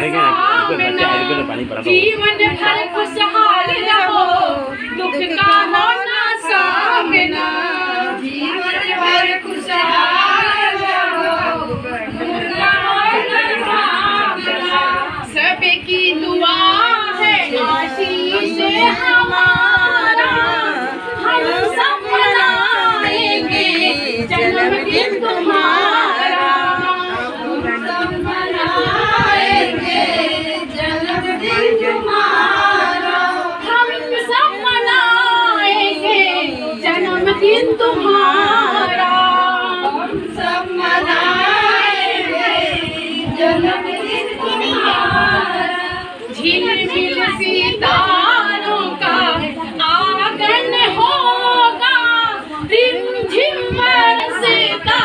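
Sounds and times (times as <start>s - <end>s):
woman singing: 0.0s - 55.0s.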